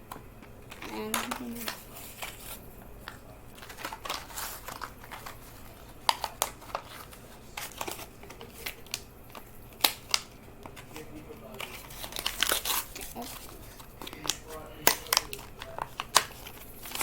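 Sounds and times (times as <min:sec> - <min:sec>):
blister pack crinkling and clicking: 0:00.0 - 0:17.0
plastic snaps: 0:03.0 - 0:17.0.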